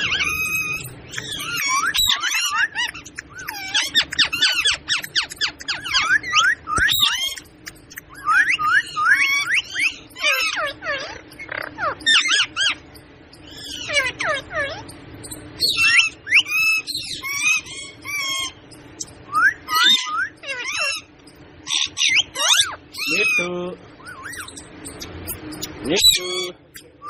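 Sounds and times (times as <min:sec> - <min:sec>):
parrot squawking: 0:00.0 - 0:27.0.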